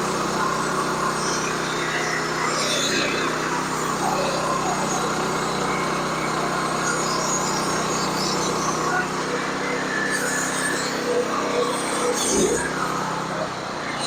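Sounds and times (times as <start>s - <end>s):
saw cutting through log: 0.0s - 14.0s
small engine running under load: 0.0s - 14.0s.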